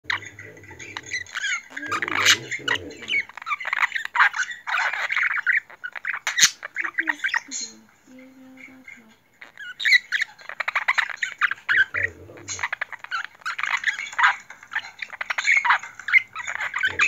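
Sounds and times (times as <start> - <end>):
budgerigar chattering and warbling: 0.1 - 17.0.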